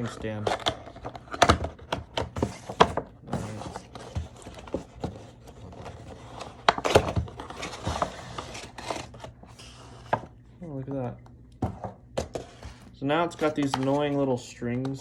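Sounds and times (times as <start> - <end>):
cardboard and plastic packaging handled: 0.0 - 10.7, 11.6 - 15.0.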